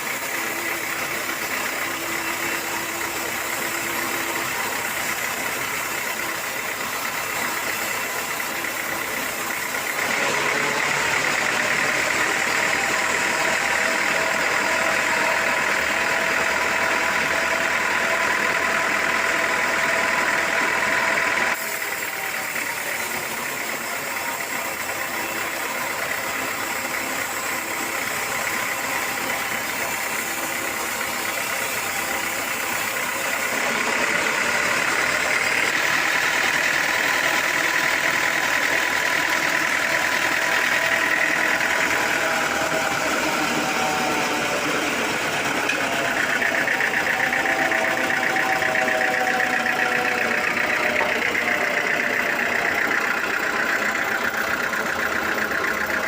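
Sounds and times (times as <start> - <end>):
saw motor whining: 0.0 - 56.0.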